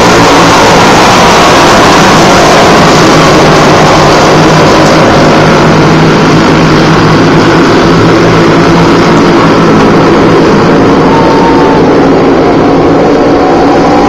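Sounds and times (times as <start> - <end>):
racing kart engines: 0.0 - 14.0.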